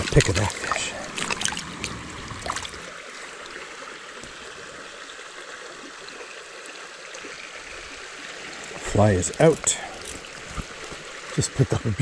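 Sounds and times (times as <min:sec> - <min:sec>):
creek water gurgling: 0:00.0 - 0:12.0.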